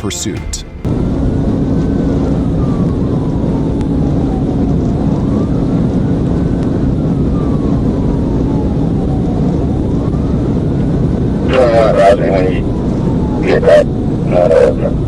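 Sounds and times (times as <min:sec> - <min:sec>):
road and engine noise: 0:00.0 - 0:15.0
police siren wailing: 0:01.0 - 0:15.0.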